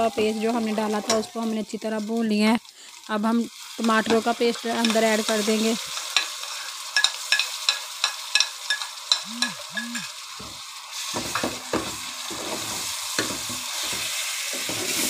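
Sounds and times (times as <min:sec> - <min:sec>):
oil sizzling in a pot: 0:00.0 - 0:15.0.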